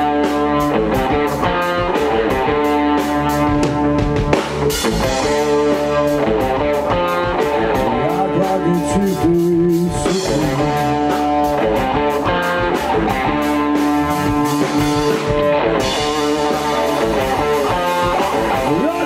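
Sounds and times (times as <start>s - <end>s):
electric blues band playing: 0.0s - 19.0s.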